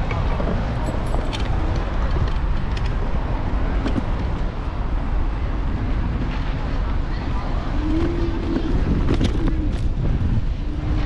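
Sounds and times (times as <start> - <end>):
city street traffic: 0.0 - 11.0
wind and road rumble: 0.0 - 11.0.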